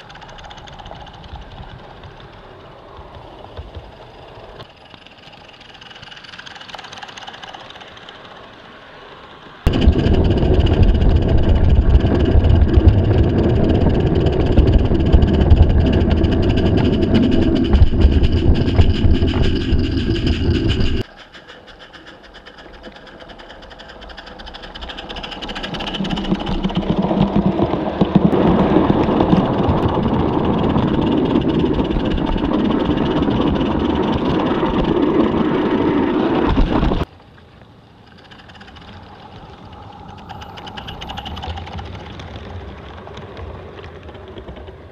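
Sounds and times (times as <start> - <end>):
small steam train rumble and clatter: 0.0 - 37.1, 37.9 - 44.9.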